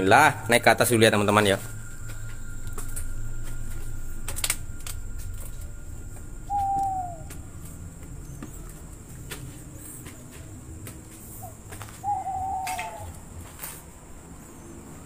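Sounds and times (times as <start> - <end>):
owl hooting: 0.0 - 15.0.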